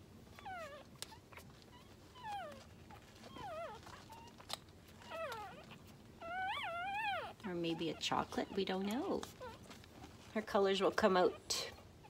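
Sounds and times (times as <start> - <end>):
puppy whimpering: 0.2 - 12.0.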